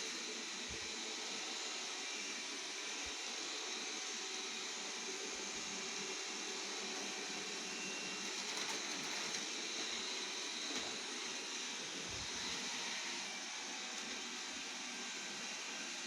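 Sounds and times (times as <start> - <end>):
robot vacuum whirring: 0.0 - 16.0.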